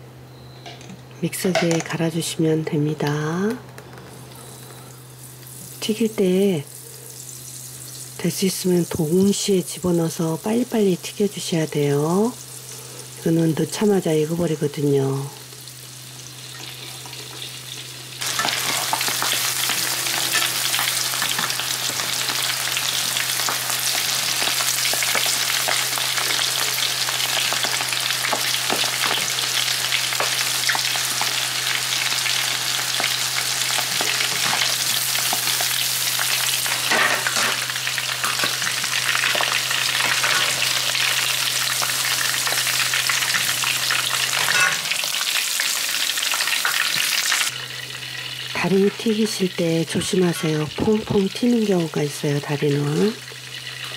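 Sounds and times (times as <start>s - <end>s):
food deep-frying in hot oil: 4.0s - 53.9s.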